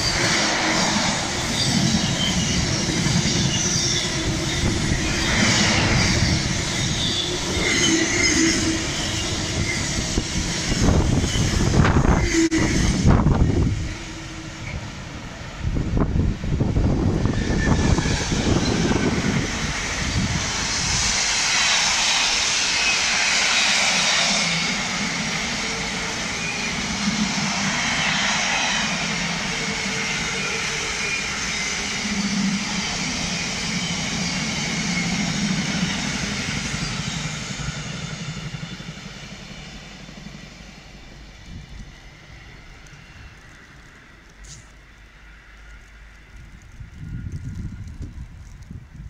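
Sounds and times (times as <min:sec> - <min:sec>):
diesel locomotive engine under load: 0:00.0 - 0:49.0.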